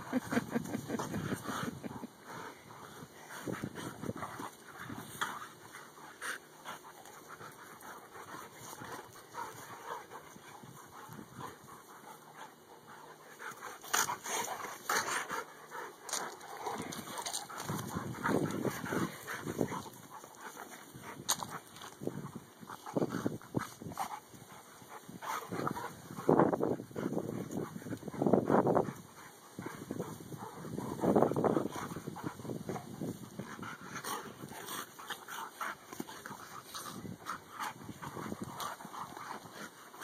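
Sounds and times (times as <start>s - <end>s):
dogs panting: 0.0s - 40.0s
dogs play vocalizing: 0.0s - 40.0s
scuffling and mouthing: 0.0s - 40.0s.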